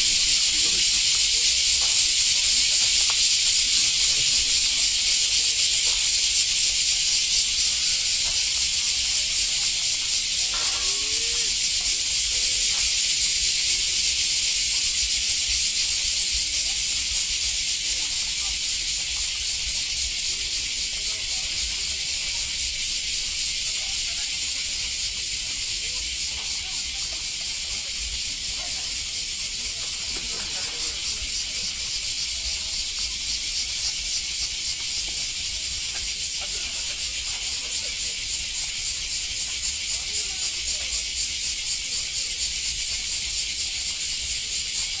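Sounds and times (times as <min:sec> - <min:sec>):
faint voices: 0:00.0 - 0:14.0, 0:15.8 - 0:45.0
high-pitched hiss: 0:00.0 - 0:45.0.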